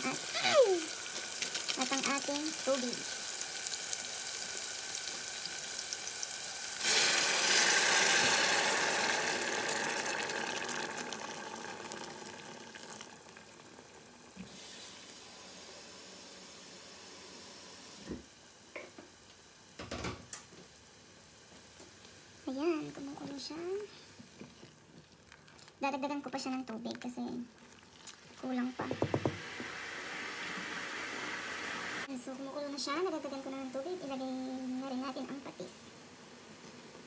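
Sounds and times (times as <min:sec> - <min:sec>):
water hissing on hot pan: 0:00.0 - 0:19.8, 0:20.6 - 0:24.9, 0:28.2 - 0:37.0
onions sizzling in a pot: 0:00.0 - 0:37.0.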